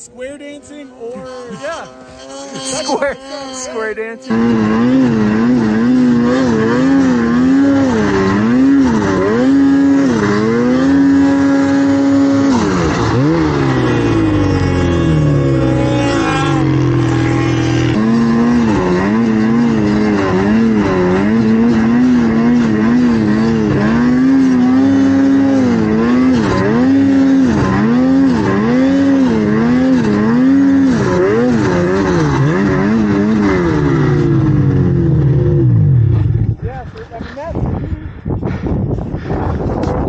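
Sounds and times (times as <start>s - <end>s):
snowmobile engine revving: 0.0s - 38.1s.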